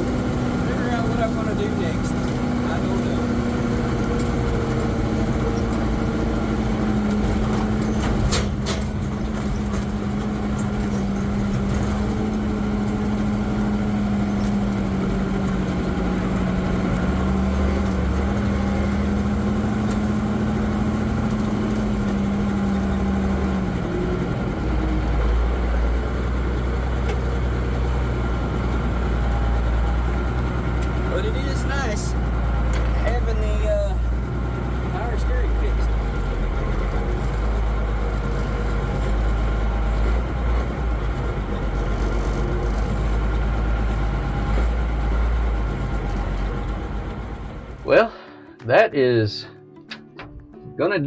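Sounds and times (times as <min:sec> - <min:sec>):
diesel truck engine running: 0:00.0 - 0:48.2.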